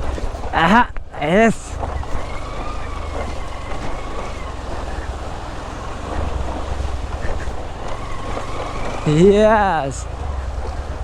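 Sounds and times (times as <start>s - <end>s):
motorcycle low rumble: 0.0s - 11.0s
wind buffeting microphone: 0.0s - 11.0s.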